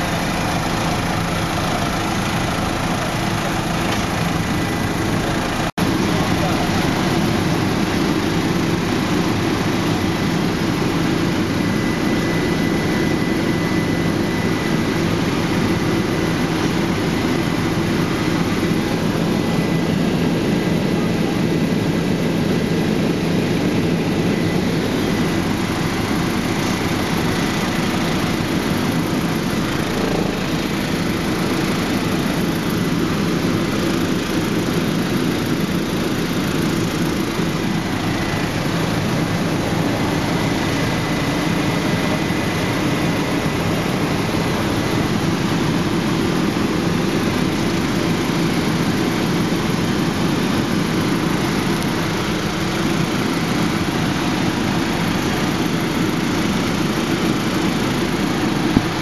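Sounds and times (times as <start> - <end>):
faint high whine: 0.0 - 54.9
helicopter engine and rotors droning: 0.0 - 59.0.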